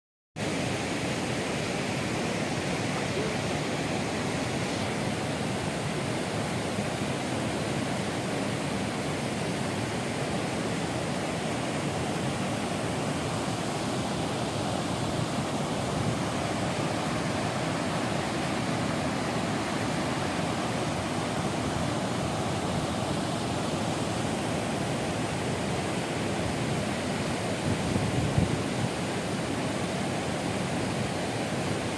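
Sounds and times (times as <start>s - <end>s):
waterfall rushing: 0.4s - 31.9s.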